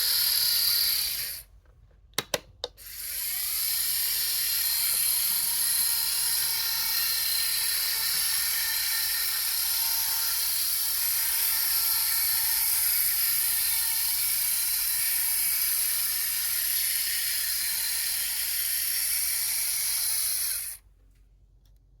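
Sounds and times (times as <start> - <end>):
model locomotive motor whirring: 0.0 - 1.5, 2.8 - 20.8.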